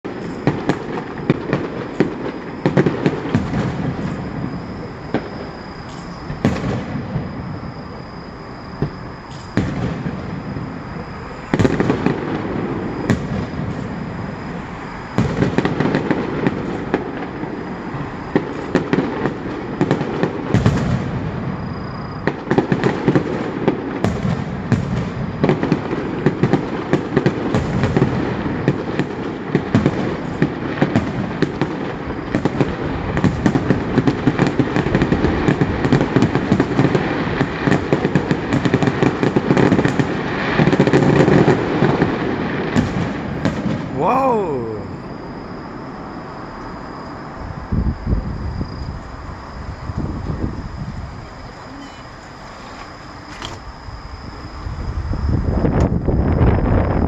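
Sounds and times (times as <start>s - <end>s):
fireworks bangs and crackles: 0.0s - 46.2s.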